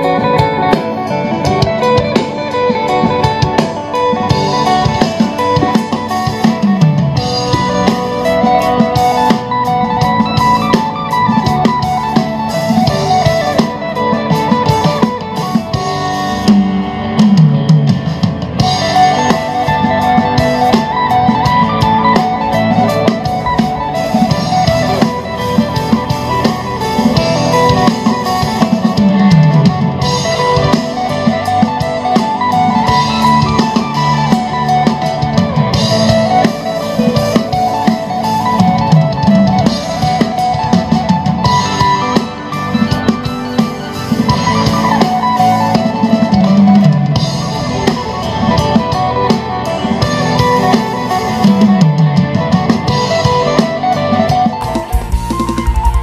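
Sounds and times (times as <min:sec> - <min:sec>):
guitar and drum music: 0:00.0 - 0:56.0.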